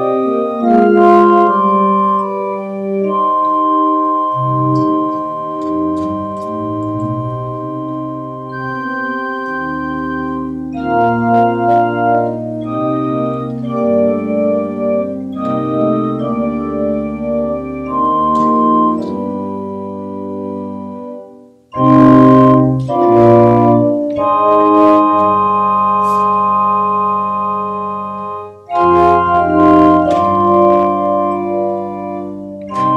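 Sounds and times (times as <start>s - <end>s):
organ chords: 0.0s - 32.9s.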